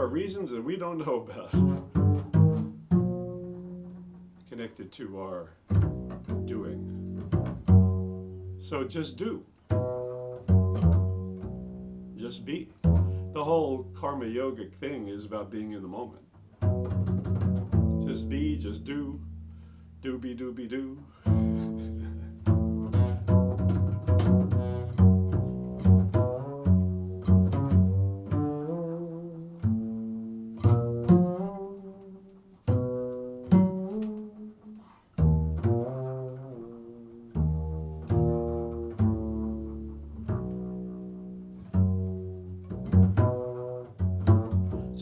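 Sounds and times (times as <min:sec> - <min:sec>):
low plucked string notes: 0:01.4 - 0:04.5, 0:05.7 - 0:45.0.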